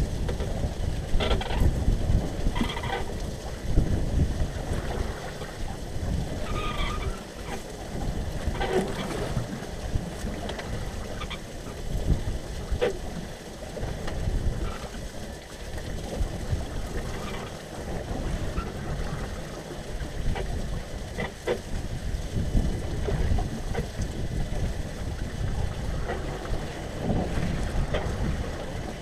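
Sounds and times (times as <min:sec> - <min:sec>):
wind buffeting microphone: 0:00.0 - 0:15.1, 0:15.9 - 0:29.0
light clicks and drips: 0:00.0 - 0:29.0
water lapping against boat hull: 0:00.0 - 0:29.0.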